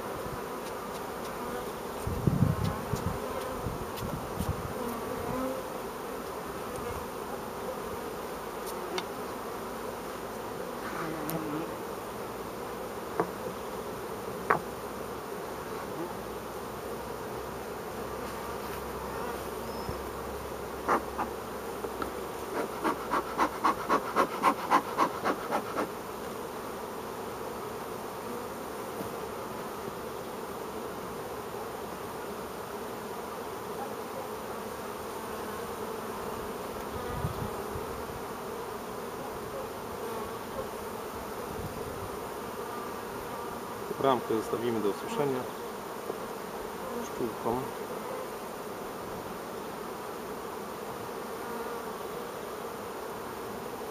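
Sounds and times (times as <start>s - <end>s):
bees buzzing: 0.0s - 53.9s.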